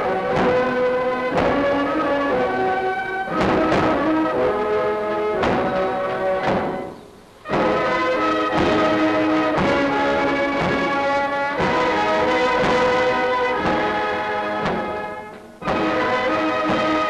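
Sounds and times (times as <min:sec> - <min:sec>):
brass band music: 0:00.0 - 0:17.0
heavy drum beat: 0:00.0 - 0:17.0.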